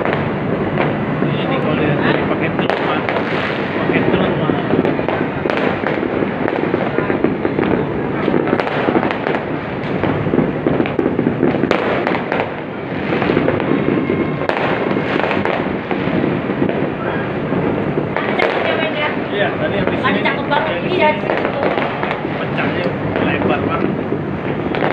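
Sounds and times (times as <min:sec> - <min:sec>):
distant fireworks crackling and popping: 0:00.0 - 0:24.9
sharp firework bangs: 0:00.0 - 0:24.9.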